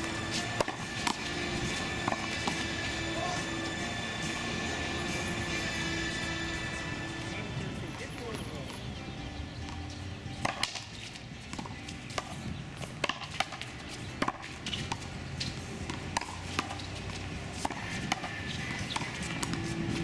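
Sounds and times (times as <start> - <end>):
ball smacking racquets and walls: 0.0 - 7.2, 9.6 - 20.0.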